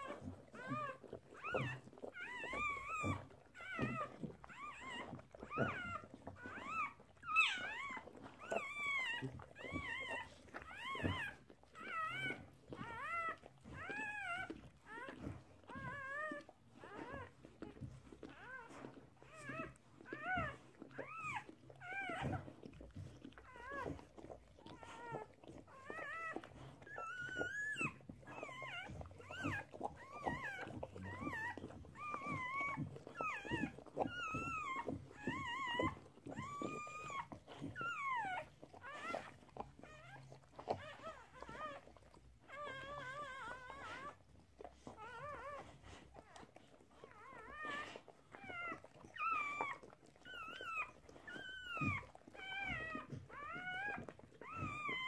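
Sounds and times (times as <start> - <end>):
newborn puppies squeaking: 0.0 - 55.0.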